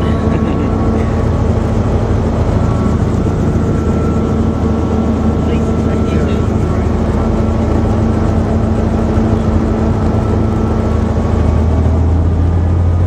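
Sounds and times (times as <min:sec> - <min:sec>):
helicopter engine and rotors: 0:00.0 - 0:13.0.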